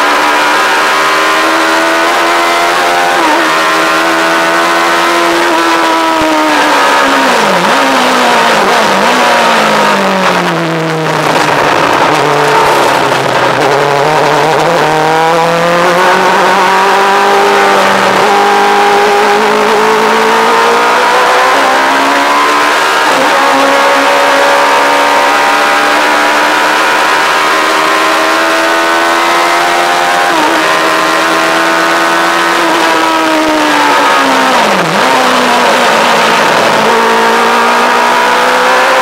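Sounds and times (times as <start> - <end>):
motorcycle engine at high revs: 0.0 - 39.0.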